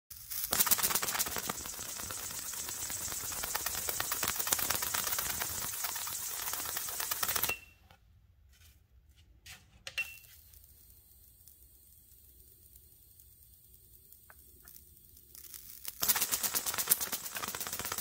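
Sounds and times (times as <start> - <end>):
plasma discharge crackling: 0.1 - 7.6, 10.3 - 18.0.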